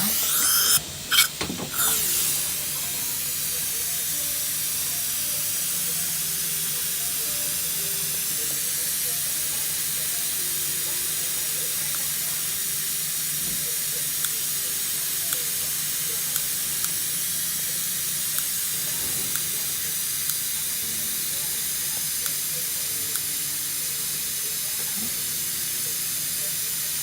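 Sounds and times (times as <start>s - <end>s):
dental suction hissing: 0.0s - 27.0s
faint soft music: 0.0s - 27.0s.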